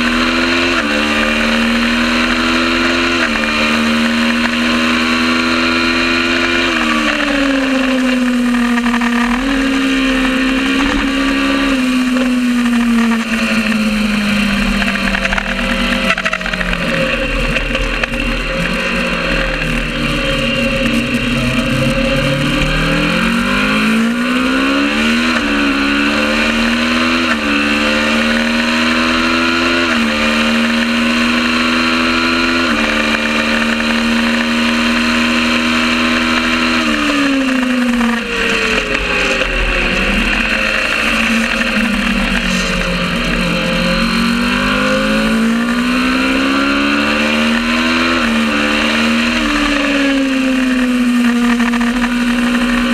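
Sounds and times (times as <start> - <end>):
race engine accelerating through gears: 0.0 - 52.9
steady rushing noise: 6.3 - 33.9, 35.8 - 52.9.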